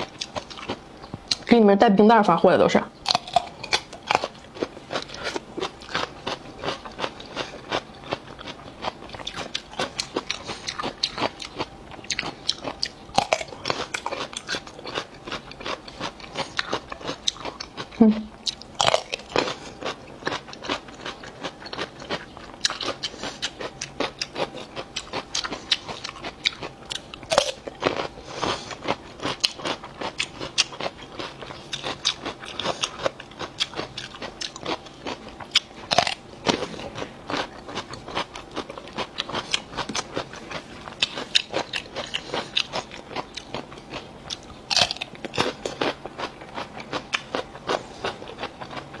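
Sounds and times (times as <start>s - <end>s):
cucumber crunching chews: 0.0s - 1.5s, 3.0s - 49.0s.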